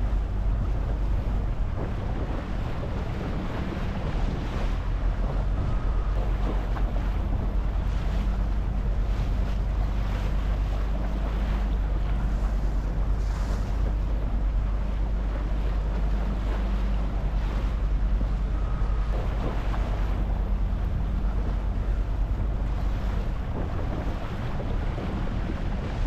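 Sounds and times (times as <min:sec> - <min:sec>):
boat engine running: 0:00.0 - 0:26.0
water washing along hull: 0:00.0 - 0:26.0
wind buffeting microphone: 0:00.0 - 0:26.0.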